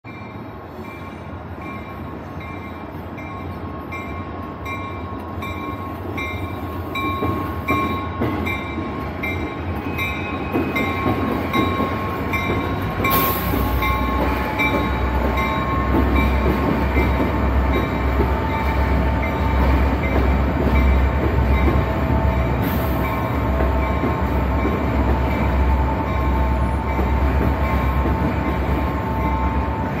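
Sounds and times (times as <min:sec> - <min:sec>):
freight train rumble: 0:00.0 - 0:30.0.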